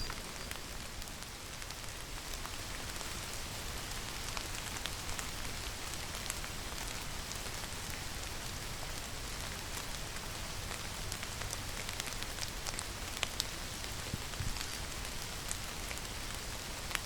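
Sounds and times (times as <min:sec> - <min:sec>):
raindrops ticking nearby: 0:00.0 - 0:17.0
steady rainfall: 0:00.0 - 0:17.0.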